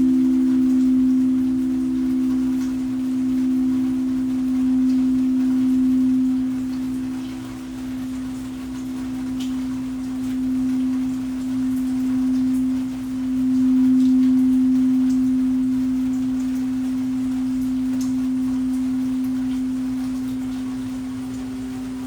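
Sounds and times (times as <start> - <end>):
singing bowl low tone: 0.0 - 22.0.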